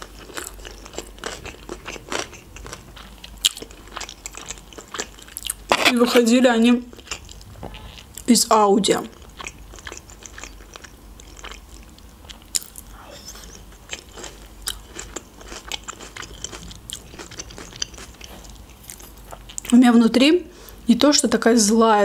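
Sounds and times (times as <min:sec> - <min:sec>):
person chewing with mouth clicks: 0:00.0 - 0:05.8, 0:06.9 - 0:08.3, 0:09.1 - 0:19.7.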